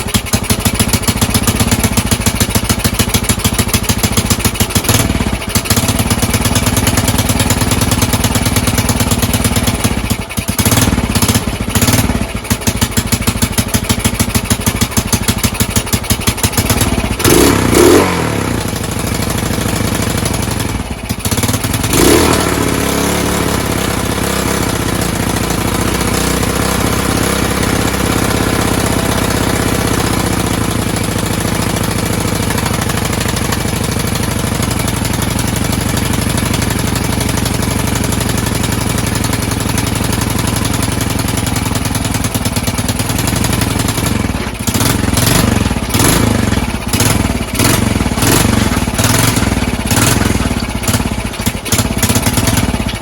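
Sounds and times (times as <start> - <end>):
motorcycle engine running rough: 0.0 - 53.0.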